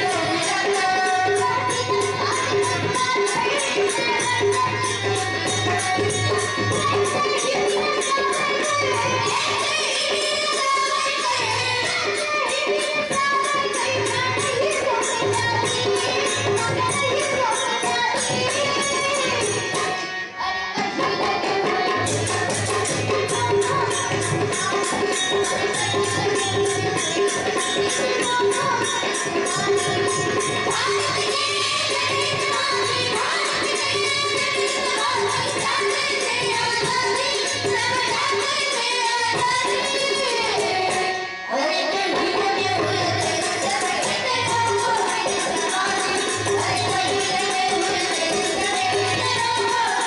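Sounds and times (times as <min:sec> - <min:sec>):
girls group singing devotional song: 0:00.0 - 0:50.0
instrumental accompaniment: 0:00.0 - 0:50.0
tabla: 0:00.0 - 0:50.0.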